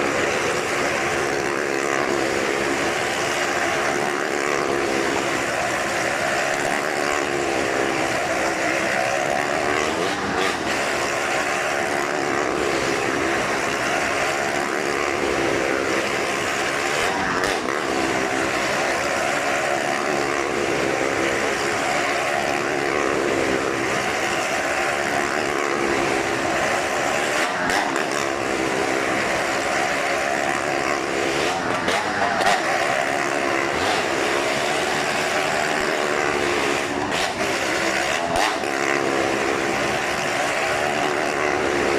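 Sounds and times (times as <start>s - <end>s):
motorcycle engines running hard: 0.0s - 41.9s.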